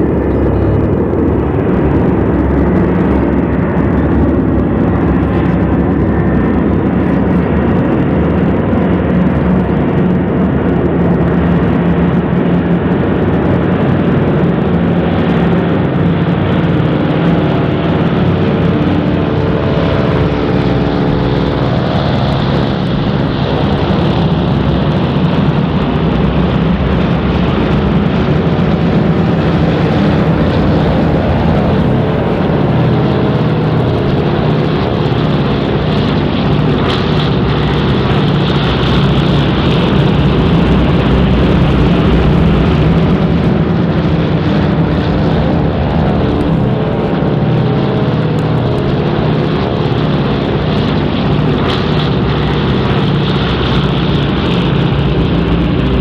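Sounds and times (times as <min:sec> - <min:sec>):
propeller planes droning overhead: 0:00.0 - 0:56.0.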